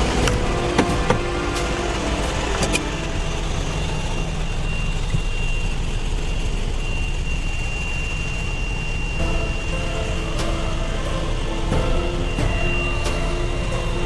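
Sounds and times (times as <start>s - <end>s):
engine running low rumble: 0.0s - 14.0s
high whine: 0.0s - 14.0s.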